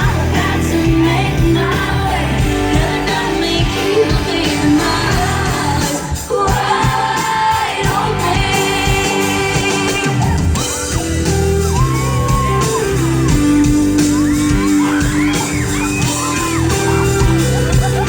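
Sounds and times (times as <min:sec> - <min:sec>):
crowd shouting and whooping: 0:00.0 - 0:18.0
live pop band playing: 0:00.0 - 0:18.0.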